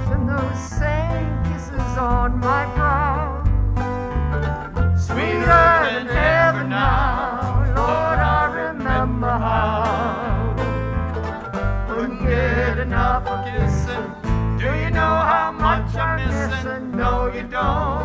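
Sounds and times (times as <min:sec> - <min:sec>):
lead melody with vibrato: 0:00.0 - 0:16.0
acoustic guitar: 0:00.0 - 0:18.0
mandolin: 0:00.0 - 0:18.0
upright bass notes: 0:00.0 - 0:18.0.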